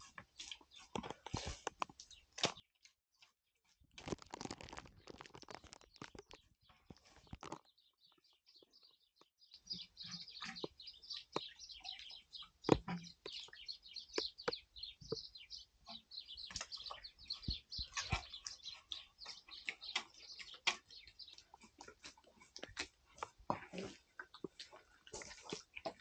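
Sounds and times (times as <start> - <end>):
small birds chirping: 0.0 - 2.7, 4.0 - 26.0.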